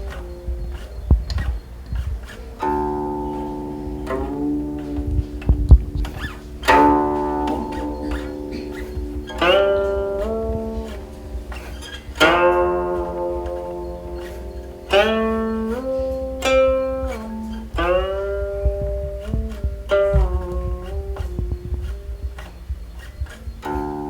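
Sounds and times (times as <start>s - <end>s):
zither plucked notes sliding: 0.0s - 24.0s.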